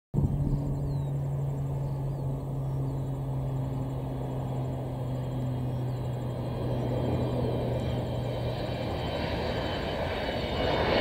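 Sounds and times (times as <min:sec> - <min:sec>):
jet engines low drone: 0:00.2 - 0:11.0.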